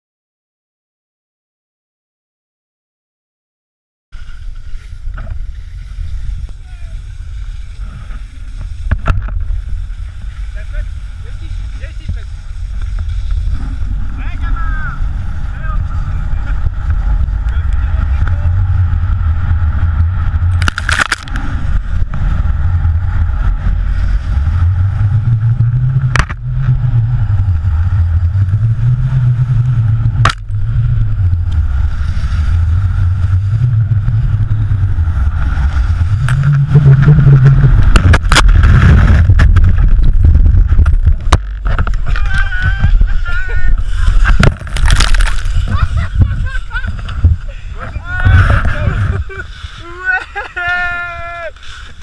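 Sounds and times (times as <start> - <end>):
engine running steadily: 6.6 - 52.0.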